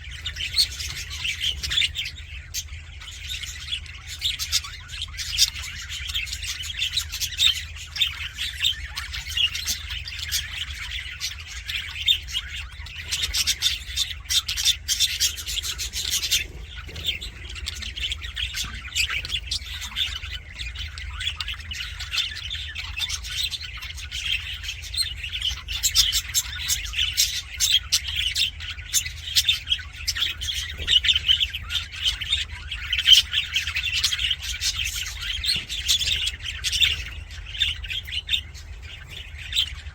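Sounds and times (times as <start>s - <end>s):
budgerigars chattering: 0.0s - 39.9s
low steady hum: 0.0s - 39.9s.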